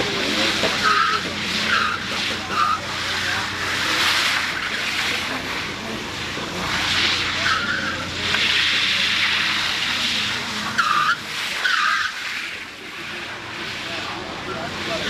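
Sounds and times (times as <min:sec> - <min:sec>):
sharp tyre chirps: 0:00.0 - 0:12.7
car tyres squealing: 0:00.0 - 0:15.0.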